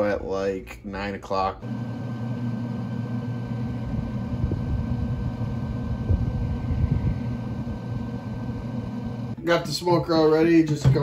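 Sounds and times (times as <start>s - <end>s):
grill fan humming: 1.6s - 11.0s.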